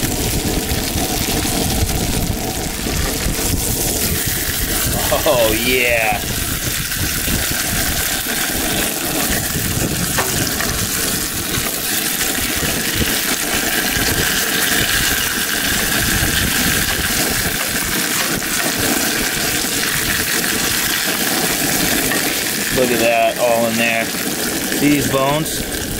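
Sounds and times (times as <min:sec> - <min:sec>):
wind buffeting microphone: 0:00.0 - 0:23.0, 0:24.1 - 0:25.9
fish sizzling in oil: 0:00.0 - 0:25.9.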